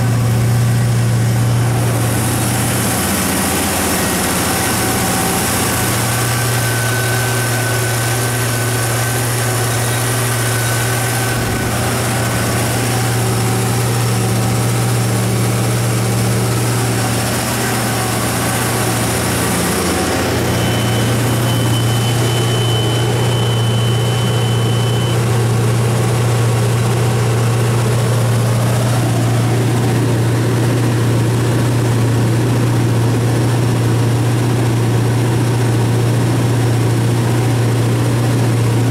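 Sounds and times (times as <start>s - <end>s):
generator engine humming: 0.0s - 38.9s.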